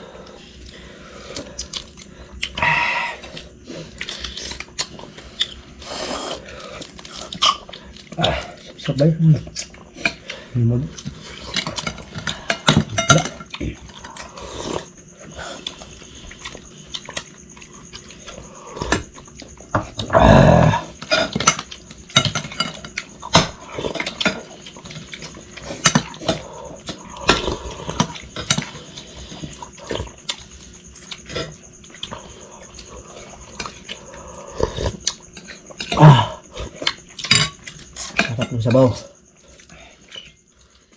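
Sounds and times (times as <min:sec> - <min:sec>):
slurping and chewing: 0:00.0 - 0:40.9.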